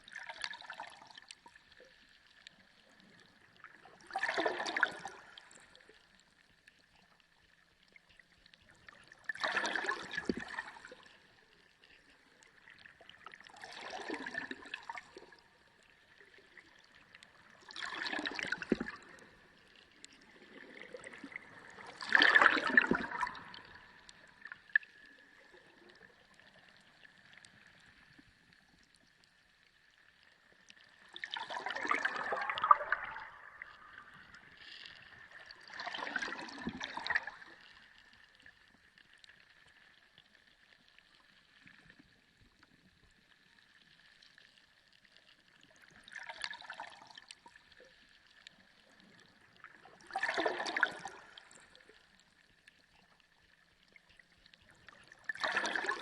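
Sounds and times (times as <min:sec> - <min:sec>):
underwater water rushing: 0:00.0 - 0:06.0, 0:08.1 - 0:29.3, 0:30.1 - 0:42.9, 0:43.7 - 0:52.8, 0:53.4 - 0:56.0.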